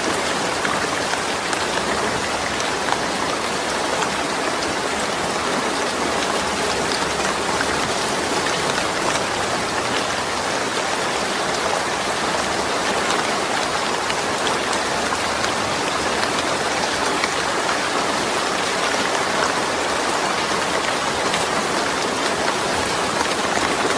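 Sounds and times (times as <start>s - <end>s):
rain pattering on a surface: 0.0s - 23.9s.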